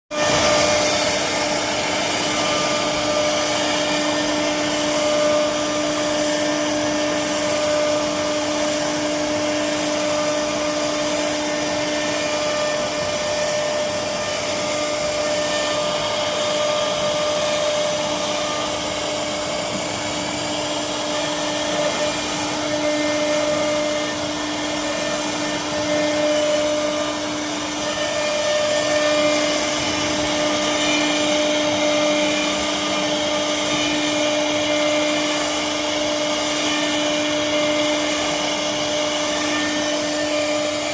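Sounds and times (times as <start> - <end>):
engraving machine motor hum: 0.2 - 40.9.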